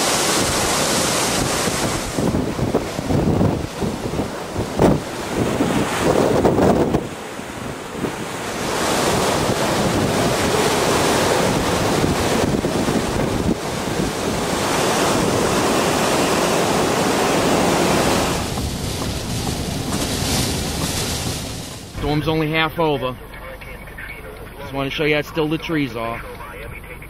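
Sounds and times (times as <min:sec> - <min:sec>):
hurricane winds buffeting microphone: 0:00.0 - 0:23.6.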